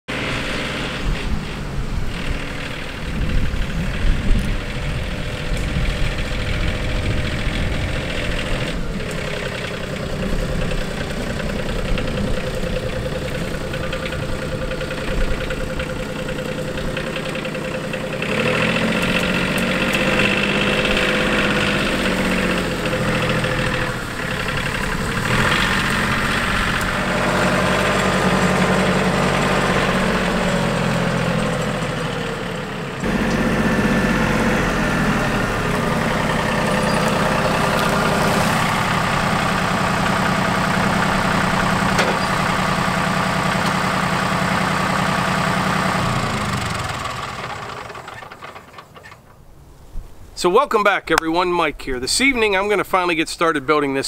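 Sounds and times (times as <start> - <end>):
tractor diesel engine running: 0.1 - 54.0.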